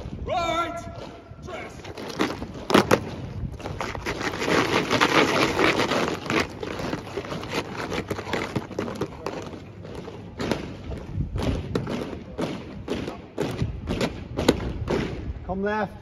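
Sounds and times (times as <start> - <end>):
boots marching and stamping: 0.8 - 15.2.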